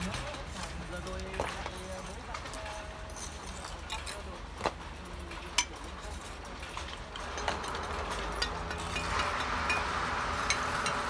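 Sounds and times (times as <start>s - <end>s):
trowel clinking on bricks: 0.0s - 11.0s.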